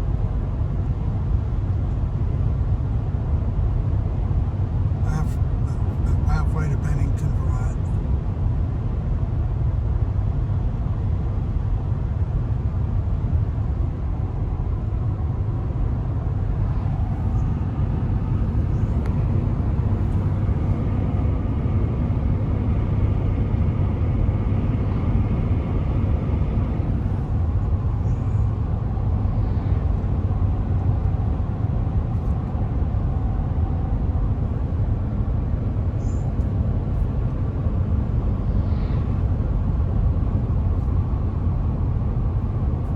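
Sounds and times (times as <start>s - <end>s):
car road noise rumble: 0.0s - 42.9s.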